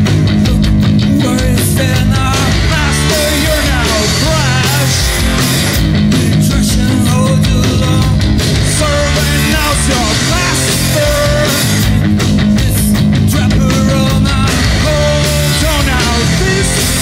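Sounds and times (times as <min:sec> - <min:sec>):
rock band playing: 0:00.0 - 0:17.0
wavering lead guitar: 0:00.0 - 0:17.0.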